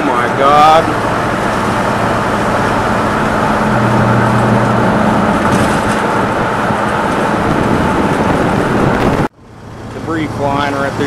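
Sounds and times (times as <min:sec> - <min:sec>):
road and wind noise: 0:00.0 - 0:11.0
truck engine low hum: 0:00.0 - 0:11.0.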